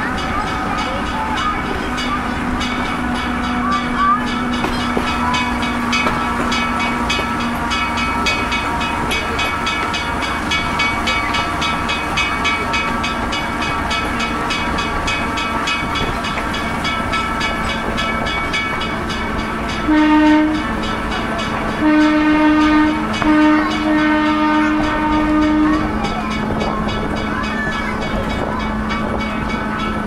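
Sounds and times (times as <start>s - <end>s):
train running with rapid clicking: 0.0s - 30.0s
train warning blast: 0.0s - 30.0s.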